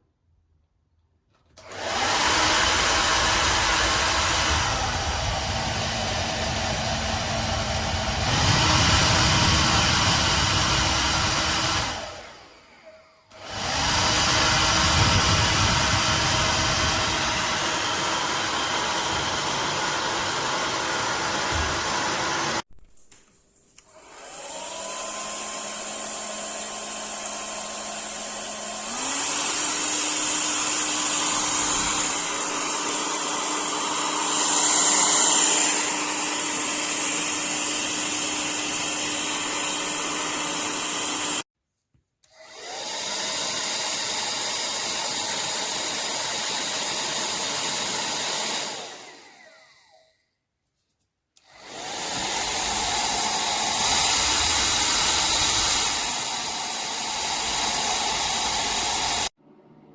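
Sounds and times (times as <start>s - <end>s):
hair dryer running: 1.6s - 22.7s, 23.9s - 41.5s, 42.2s - 50.1s, 51.4s - 59.4s.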